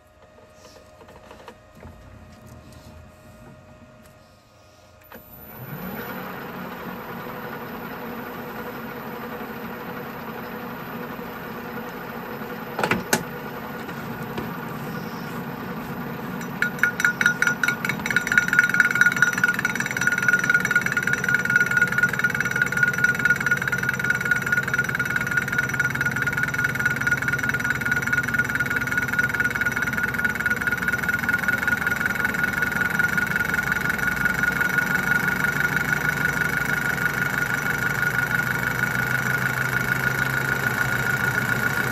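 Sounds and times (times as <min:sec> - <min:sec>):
lathe running: 0:05.2 - 0:41.9.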